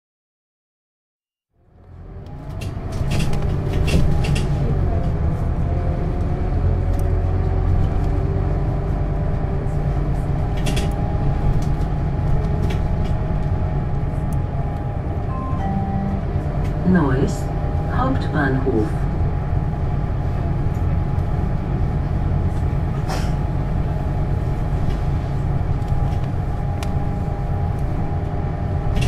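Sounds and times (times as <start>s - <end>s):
bus engine rumble with whine: 1.6s - 29.0s.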